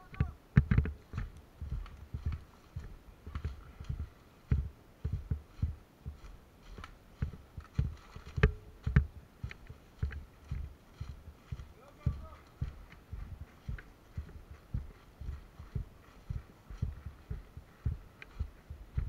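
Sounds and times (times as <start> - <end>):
footsteps walking: 0.0 - 19.0.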